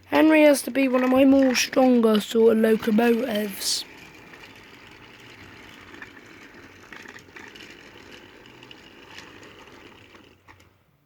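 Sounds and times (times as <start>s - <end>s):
toy train motor whirring: 0.2s - 10.6s.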